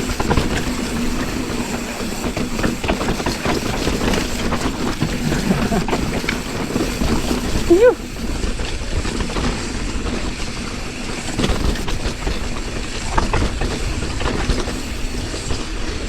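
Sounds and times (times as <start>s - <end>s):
bike rattling: 0.0s - 16.0s
bike tyres rumbling over rocks: 0.0s - 16.0s
wind buffeting microphone: 0.0s - 16.0s.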